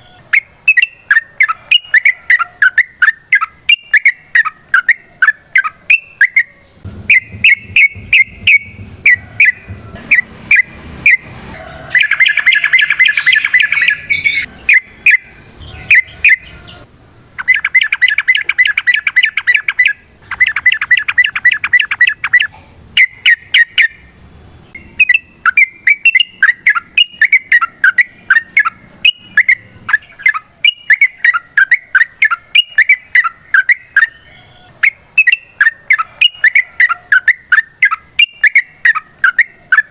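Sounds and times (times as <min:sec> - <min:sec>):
rapid bird trills: 0:00.0 - 0:24.1, 0:24.7 - 0:39.9
bulbuls calling: 0:00.0 - 0:39.9.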